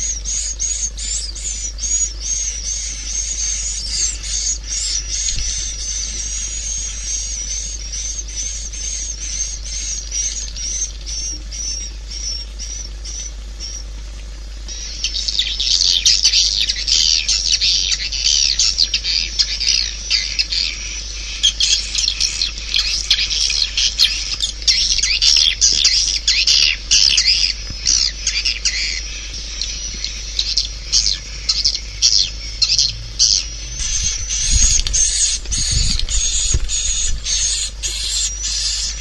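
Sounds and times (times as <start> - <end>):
dense chatter of chirps: 0.0 - 39.0
swiftlet twittering chirps: 0.0 - 39.0.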